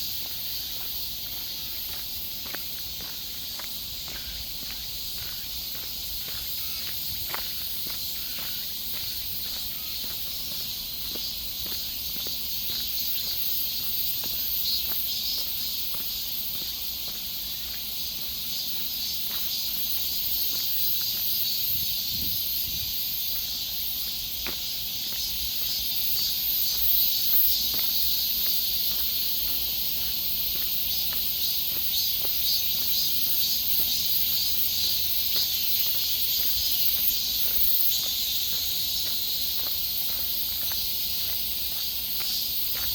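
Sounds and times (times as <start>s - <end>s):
insects buzzing shrilly: 0.0s - 42.9s.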